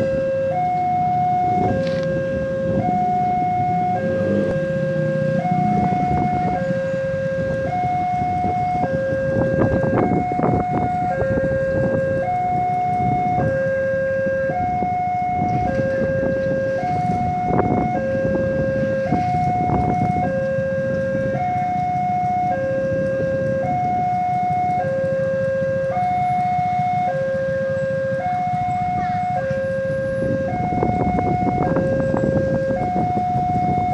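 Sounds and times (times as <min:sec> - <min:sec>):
level crossing warning alarm: 0:00.0 - 0:33.9
traffic rumble: 0:00.0 - 0:33.9.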